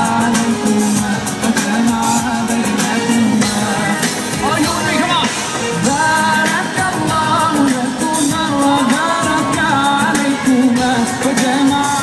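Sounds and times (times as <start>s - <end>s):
live band with percussion beat: 0.0s - 12.0s
person singing: 0.0s - 12.0s.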